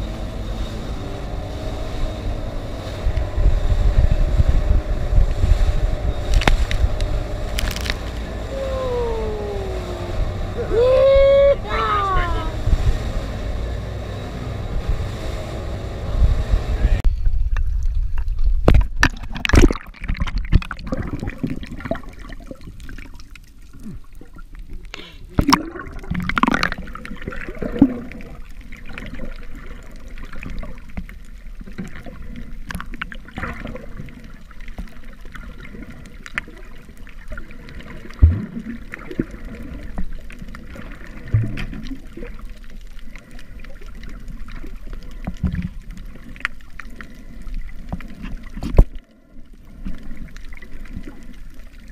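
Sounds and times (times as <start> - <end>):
water gurgling and sloshing: 0.0 - 51.9.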